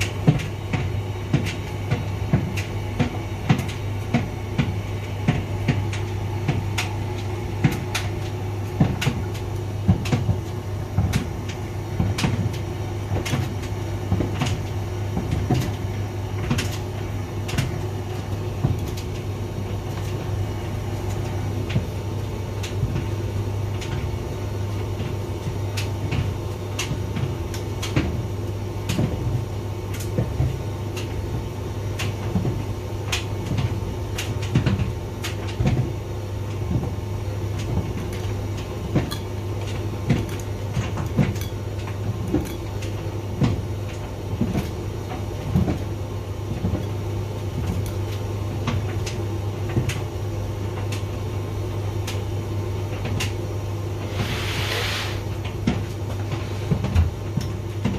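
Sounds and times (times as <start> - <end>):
tumble dryer motor and drum hum: 0.0 - 57.9.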